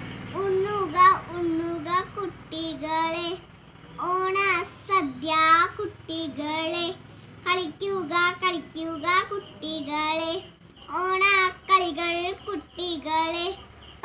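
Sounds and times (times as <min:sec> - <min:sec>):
girl singing alone: 0:00.3 - 0:13.6.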